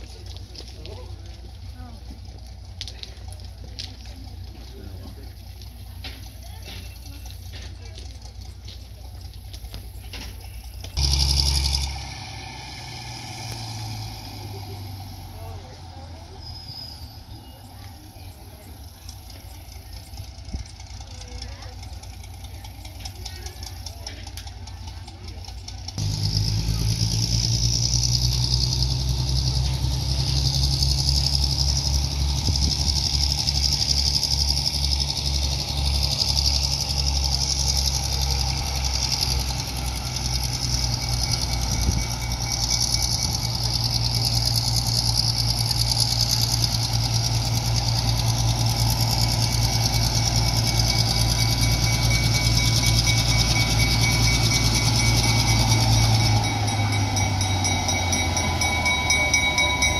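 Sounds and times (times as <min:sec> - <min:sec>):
locomotive engine low rumble: 0:00.0 - 0:59.9.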